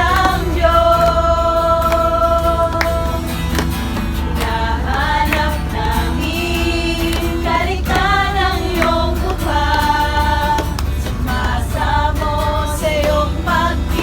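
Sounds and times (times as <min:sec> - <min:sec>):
voices singing held notes: 0:00.0 - 0:14.0.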